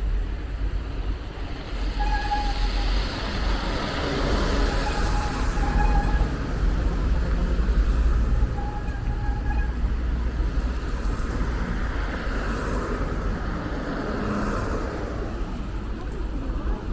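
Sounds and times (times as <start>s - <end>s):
traffic rumble: 0.0s - 16.9s.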